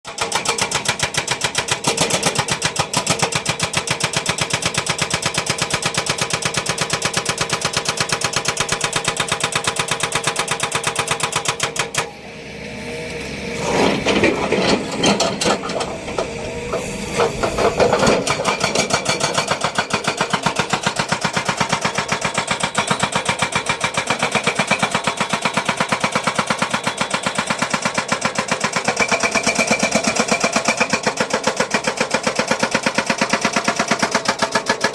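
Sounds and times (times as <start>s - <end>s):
construction machinery pounding: 0.1s - 12.2s, 13.1s - 34.9s.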